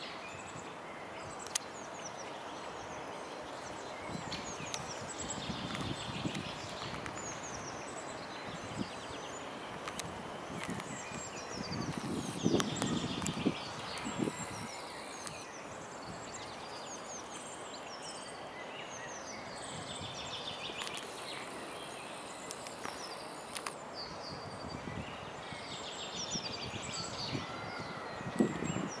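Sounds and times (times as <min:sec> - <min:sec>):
outdoor background hiss: 0:00.0 - 0:29.0
small birds chirping: 0:00.0 - 0:29.0.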